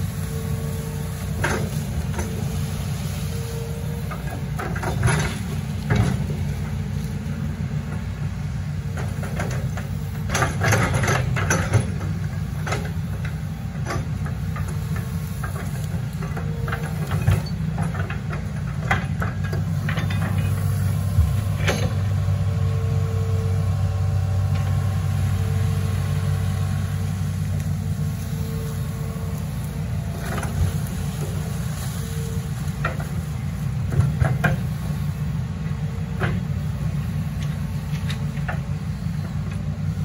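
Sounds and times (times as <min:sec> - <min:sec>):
diesel excavator engine running: 0:00.0 - 0:40.0
hydraulic whine: 0:00.0 - 0:40.0.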